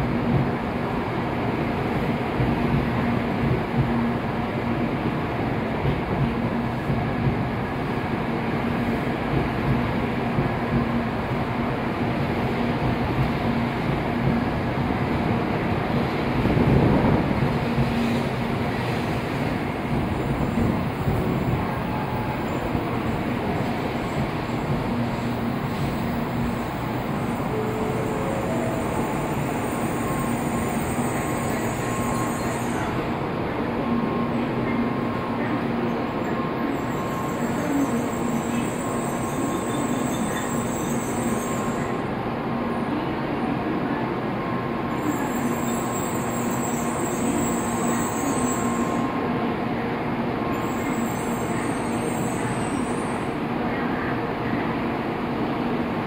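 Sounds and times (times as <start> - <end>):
train rumbling slowly: 0.0 - 56.0.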